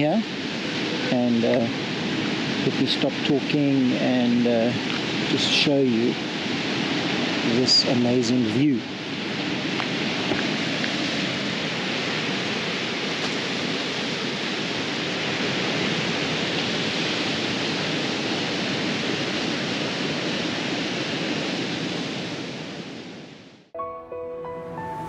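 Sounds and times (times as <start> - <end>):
ocean surf rushing: 0.0 - 23.7.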